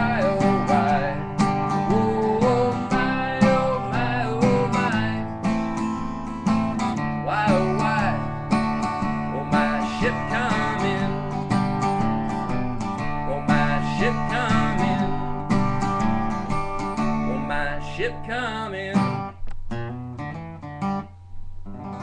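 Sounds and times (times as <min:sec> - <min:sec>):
acoustic guitar strumming country tune: 0:00.0 - 0:22.0.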